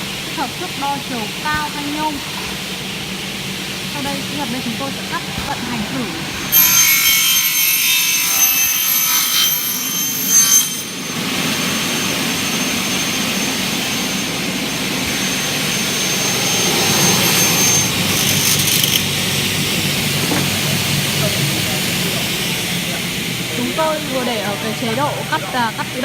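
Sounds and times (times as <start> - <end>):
circular saw cutting metal: 3.2 - 26.0.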